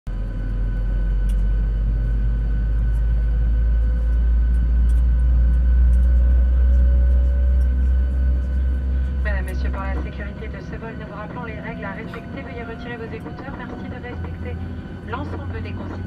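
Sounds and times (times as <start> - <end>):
deep cabin rumble: 0.1 - 16.0
faint hum: 0.1 - 16.0.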